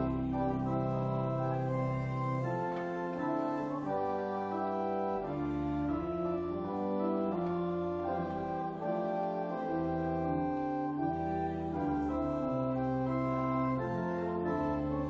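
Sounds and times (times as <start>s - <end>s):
church organ playing hymn: 0.0s - 15.0s.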